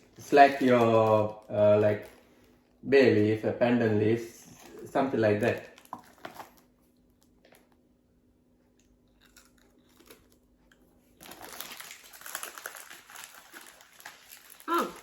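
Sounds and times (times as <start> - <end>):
biscuit crunching: 0.0 - 2.8, 4.2 - 7.9, 8.5 - 15.0.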